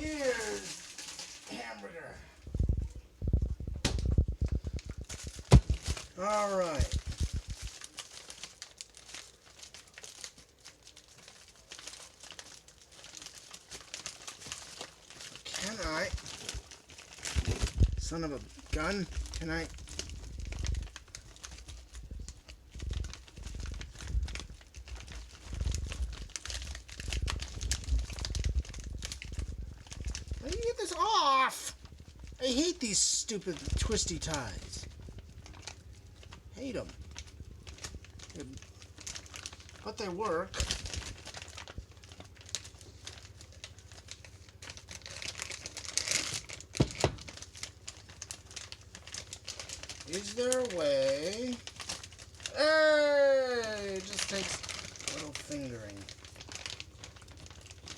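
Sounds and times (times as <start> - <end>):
plastic bag crinkling: 0.0 - 57.9.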